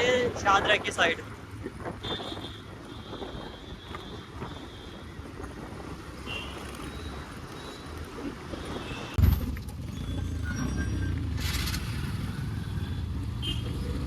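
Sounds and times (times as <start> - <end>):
motorcycle engine rumbling: 1.7 - 14.0.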